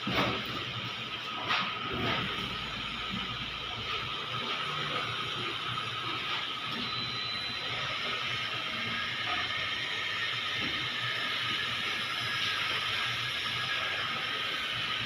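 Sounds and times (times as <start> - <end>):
conveyor belt hiss and rumble: 0.0 - 15.0.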